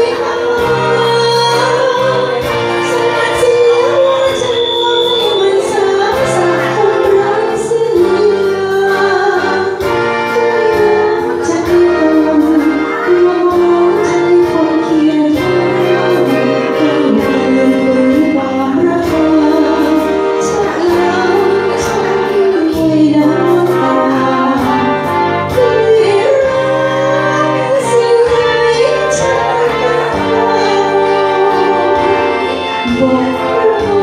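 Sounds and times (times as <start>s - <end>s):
woman singing through loudspeaker: 0.0s - 34.0s.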